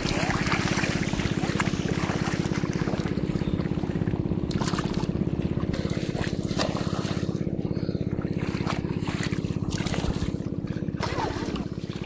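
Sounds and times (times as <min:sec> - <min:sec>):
small engine running: 0:00.0 - 0:12.0
water splashing: 0:00.0 - 0:12.0.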